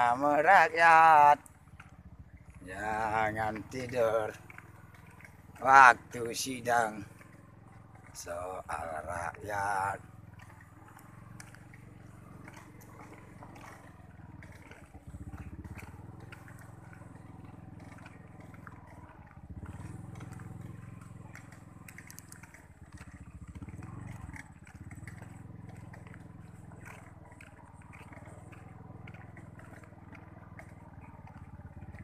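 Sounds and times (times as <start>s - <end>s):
small motorcycle engine: 0.0s - 32.0s.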